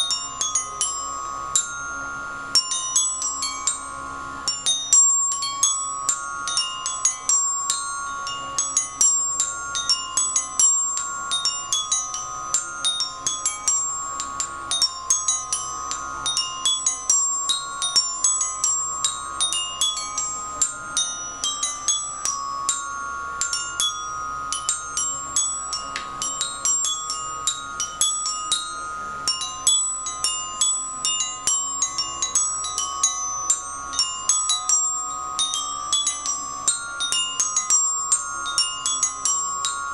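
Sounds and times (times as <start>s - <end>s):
glockenspiel struck with mallets: 0.0s - 39.9s.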